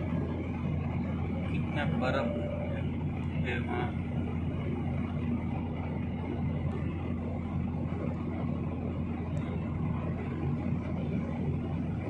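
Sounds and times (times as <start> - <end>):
constant low hum: 0.0 - 12.0
jet engines droning: 0.0 - 12.0.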